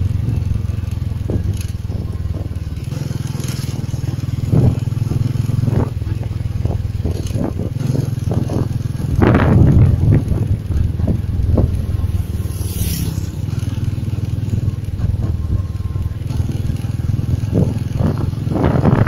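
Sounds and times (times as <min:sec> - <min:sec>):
vehicle road noise: 0:00.0 - 0:19.0
wind rumbling on microphone: 0:00.0 - 0:19.0.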